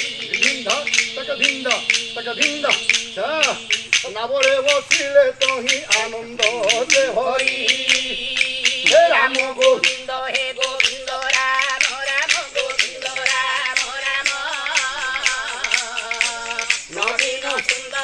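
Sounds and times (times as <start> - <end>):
man singing long notes: 0.0 - 18.0
wooden clappers clacking: 0.0 - 18.0.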